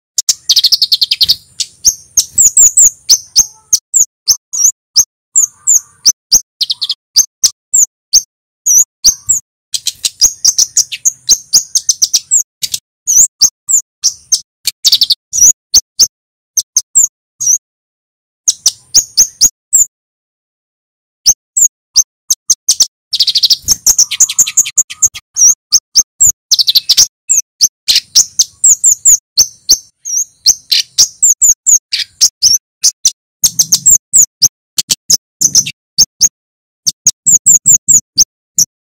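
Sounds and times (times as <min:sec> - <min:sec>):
bird chip notes and trills: 0:00.2 - 0:17.6, 0:18.5 - 0:19.9, 0:21.2 - 0:38.8.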